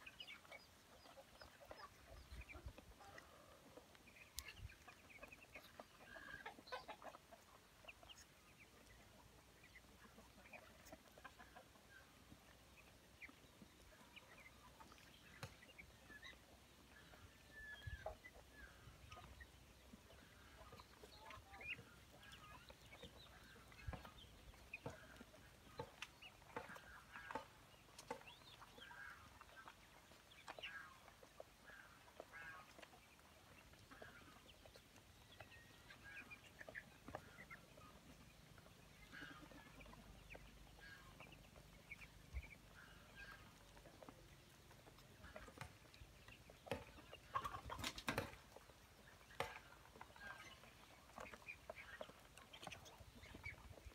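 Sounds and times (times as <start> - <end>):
ducklings peeping and chirping: 0.0 - 53.9.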